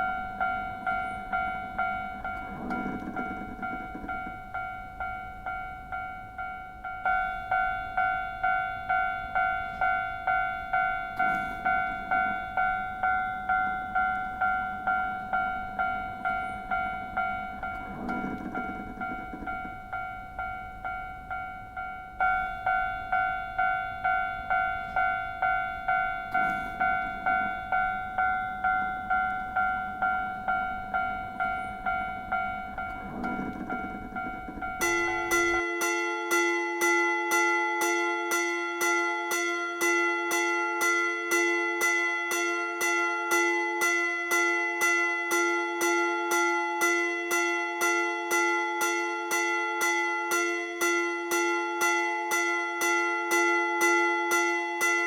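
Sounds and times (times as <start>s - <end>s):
level-crossing warning bell clanging: 0.0s - 55.0s.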